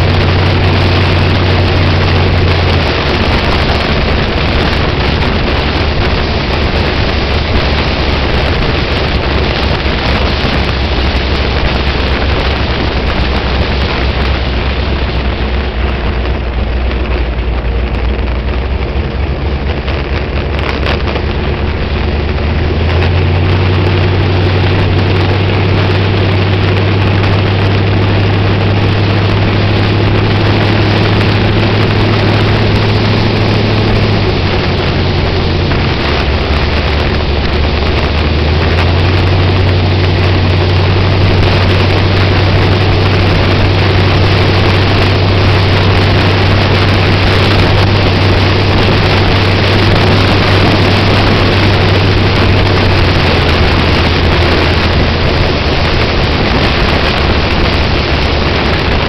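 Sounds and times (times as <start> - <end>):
race car engine running: 0.0 - 59.0
wind buffeting microphone: 0.0 - 59.0.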